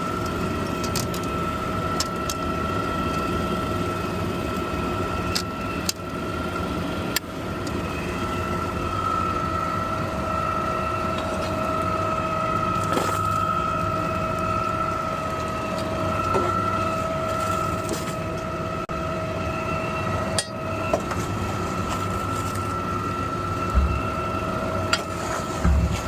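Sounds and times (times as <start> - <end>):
steady high whine: 0.0 - 26.0.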